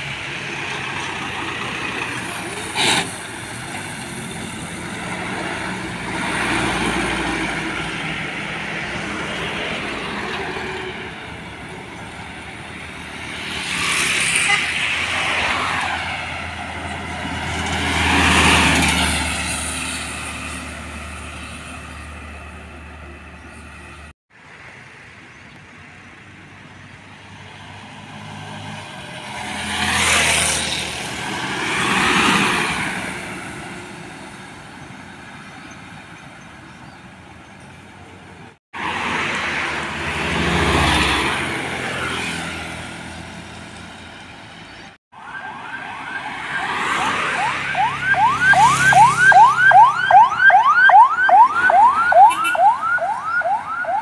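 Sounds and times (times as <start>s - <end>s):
diesel trucks passing by: 0.0s - 54.0s.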